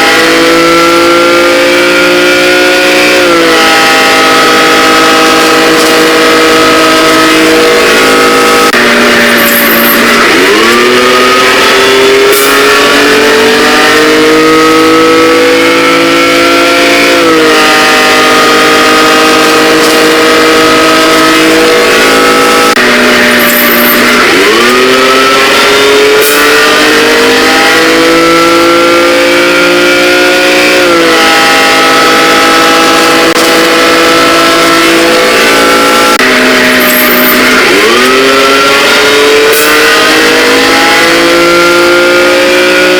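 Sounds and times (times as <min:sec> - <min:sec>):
vehicle engine revving: 0:00.0 - 0:42.9.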